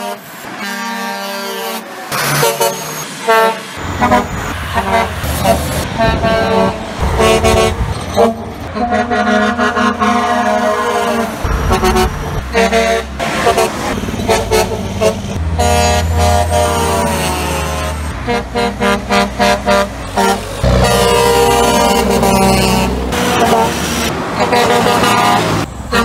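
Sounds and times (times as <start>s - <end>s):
truck air horns: 0.0s - 26.0s
diesel engine rumble: 2.1s - 26.0s.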